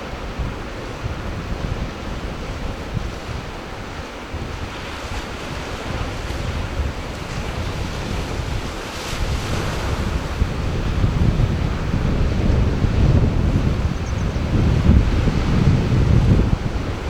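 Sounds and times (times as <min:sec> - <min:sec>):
ocean surf washing in: 0:00.0 - 0:17.0
wave breaking: 0:00.0 - 0:17.0
wind buffeting microphone: 0:00.0 - 0:17.0.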